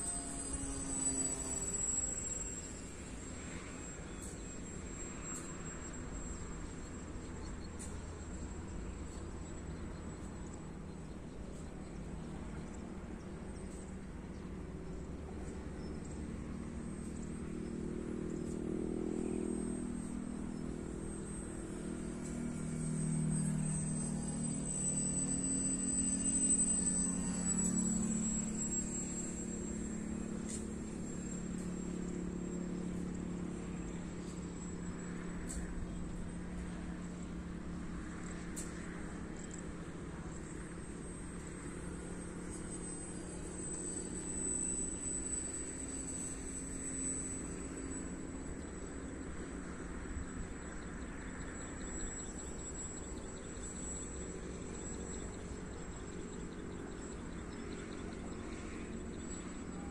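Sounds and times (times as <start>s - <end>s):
crickets trilling: 0.0s - 10.2s, 17.0s - 35.7s, 36.8s - 59.9s
continuous low rumble: 0.0s - 59.9s
model plane motor droning: 0.0s - 59.9s
thin high whine: 0.0s - 59.9s.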